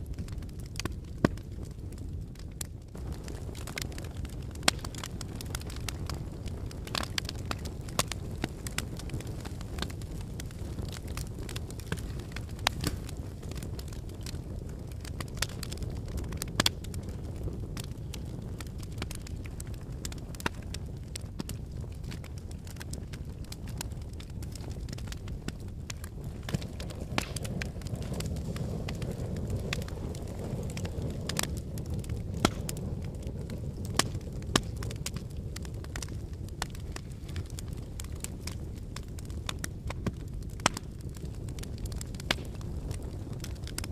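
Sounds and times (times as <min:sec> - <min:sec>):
fire crackling and popping: 0:00.0 - 0:43.9
fire rumbling: 0:00.0 - 0:43.9.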